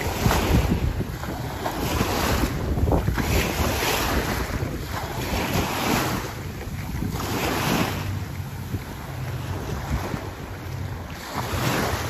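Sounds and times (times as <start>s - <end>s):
small waves washing on shore: 0.0s - 12.0s
wind buffeting microphone: 0.0s - 12.0s.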